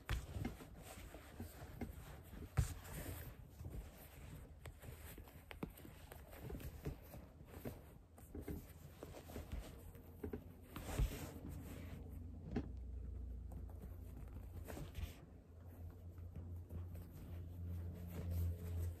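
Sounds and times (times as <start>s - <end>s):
cloth rustling: 0.0s - 19.0s
low steady hum: 0.0s - 19.0s.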